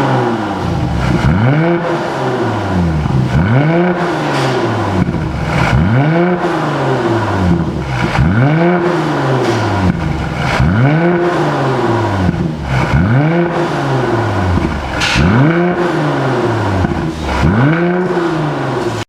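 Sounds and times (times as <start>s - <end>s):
car engine throttle blips: 0.0s - 19.0s.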